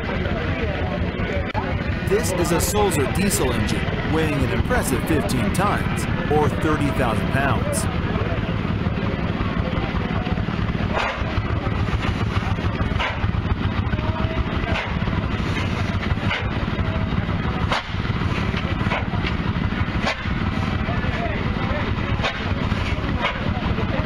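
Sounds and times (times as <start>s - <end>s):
stationary diesel engine running slowly: 3.8s - 24.0s.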